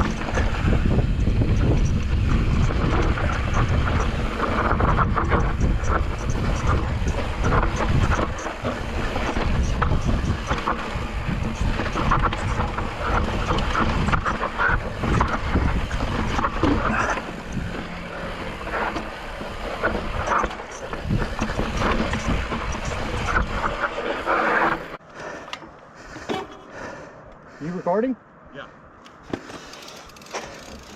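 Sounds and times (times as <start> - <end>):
wind buffeting microphone: 0.0 - 25.0
bike rattling over rocky trail: 0.0 - 26.8, 29.1 - 30.9.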